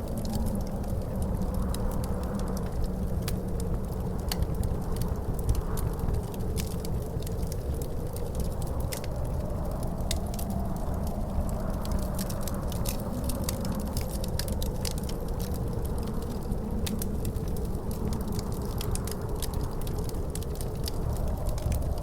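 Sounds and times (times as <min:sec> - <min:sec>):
wind howling: 0:00.0 - 0:22.0
wood fire crackling and popping: 0:00.0 - 0:22.0.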